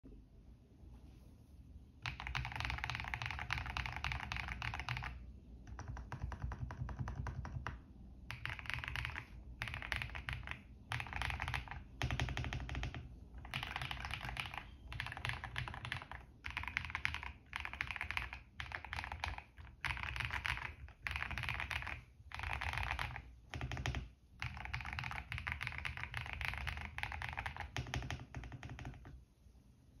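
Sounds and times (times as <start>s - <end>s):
mechanical keyboard typing: 2.0s - 29.2s.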